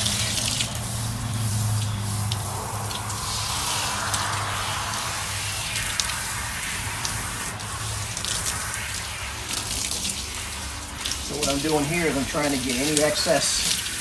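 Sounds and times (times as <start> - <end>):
hose spray hissing and splashing: 0.0 - 14.0
low steady hum: 0.0 - 14.0.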